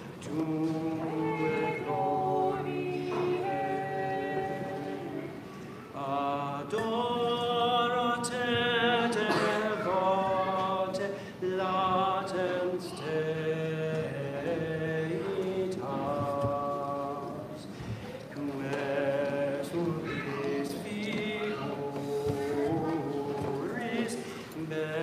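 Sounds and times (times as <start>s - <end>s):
voices singing chant: 0.0s - 25.0s.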